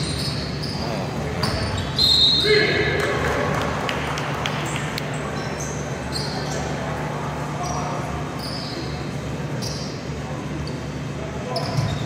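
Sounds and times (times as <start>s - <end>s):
sneaker squeaks: 0.0s - 2.9s, 4.6s - 12.0s.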